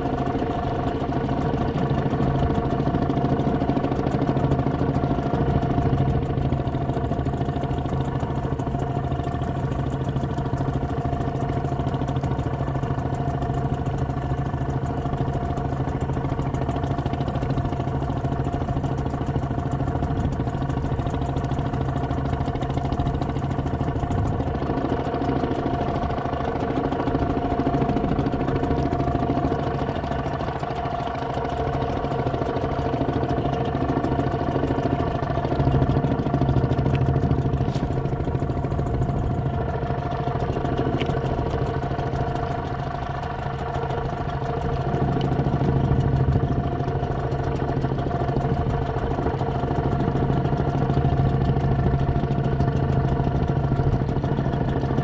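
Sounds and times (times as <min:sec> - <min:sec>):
small boat engine running: 0:00.0 - 0:55.0.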